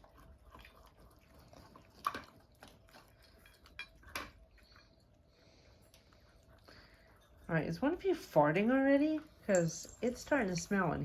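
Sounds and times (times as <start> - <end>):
cats eating wet food: 0.0 - 11.0.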